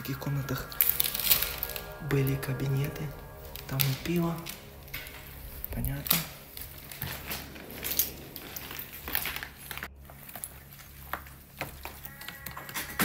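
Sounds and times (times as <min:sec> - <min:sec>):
steady low hum: 0:00.0 - 0:12.4
footsteps crunching on rubble: 0:00.7 - 0:13.0.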